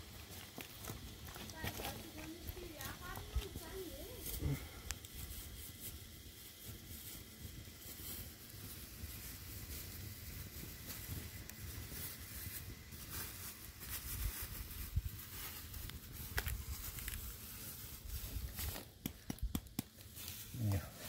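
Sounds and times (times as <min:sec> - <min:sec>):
sharp pops of fire: 0:00.0 - 0:20.8
fire crackling: 0:00.0 - 0:21.0.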